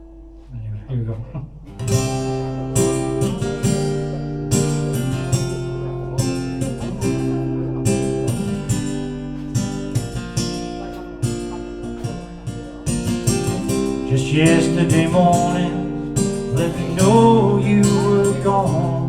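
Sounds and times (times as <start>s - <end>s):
acoustic guitar strumming chords: 0.0s - 0.6s, 1.2s - 19.0s.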